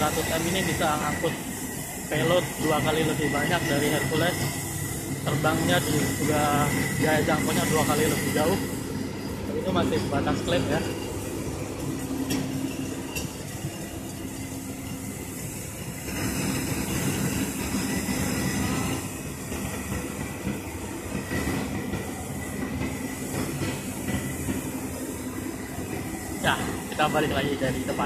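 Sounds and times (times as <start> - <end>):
ground power unit engine drone: 0.0 - 28.0.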